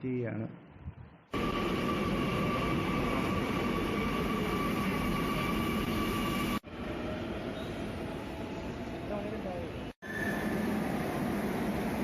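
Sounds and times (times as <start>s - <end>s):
train rumbling with electric whine: 1.4s - 12.0s.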